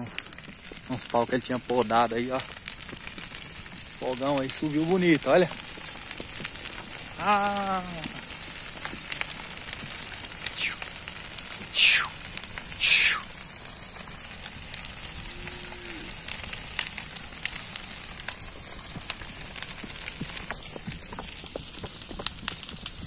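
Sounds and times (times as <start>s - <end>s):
bonfire crackling: 0.0s - 23.0s.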